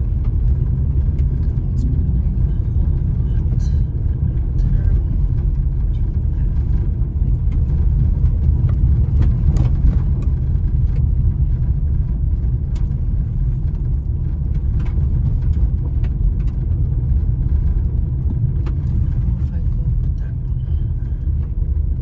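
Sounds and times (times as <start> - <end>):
car rumbling on dirt road: 0.0 - 22.0.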